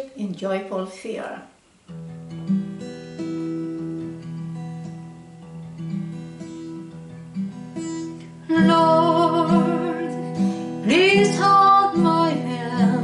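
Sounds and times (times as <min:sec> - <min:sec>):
acoustic guitar chords: 0:01.6 - 0:13.0.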